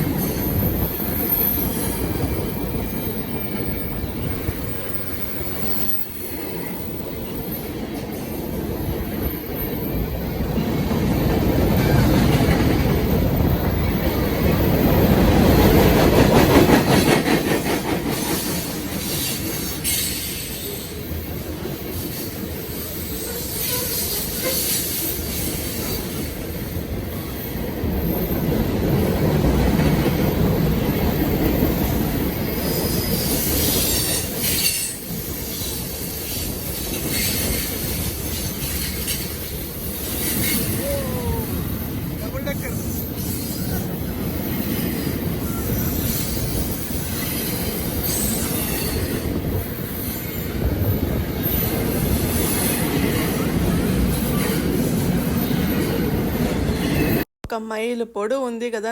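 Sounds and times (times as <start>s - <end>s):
train wheel squeal: 0.0s - 57.2s
freight train rolling on rails: 0.0s - 57.3s.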